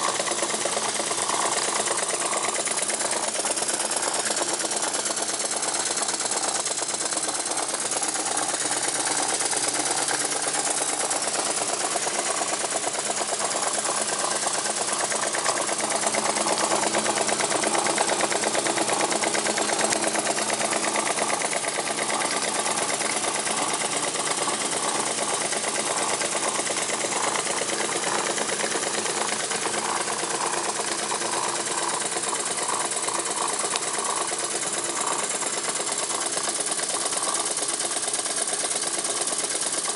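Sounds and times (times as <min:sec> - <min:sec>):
steam engine rapid clatter: 0:00.0 - 0:39.9.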